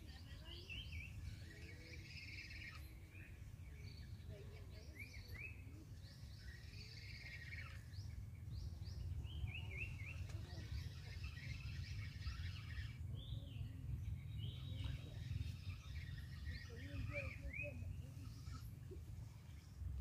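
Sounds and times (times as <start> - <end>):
wild birds chirping and singing: 0.0 - 20.0
low steady rumble: 3.0 - 20.0.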